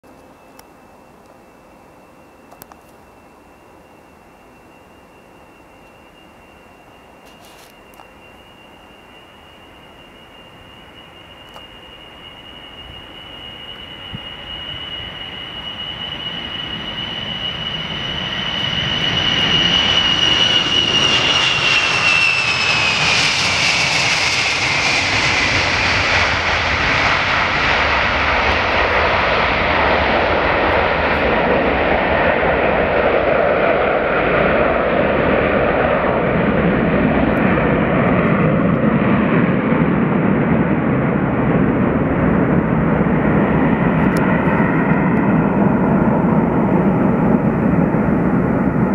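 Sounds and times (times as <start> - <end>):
jet engine whine: 0.0 - 48.9
jet roar: 7.3 - 48.9.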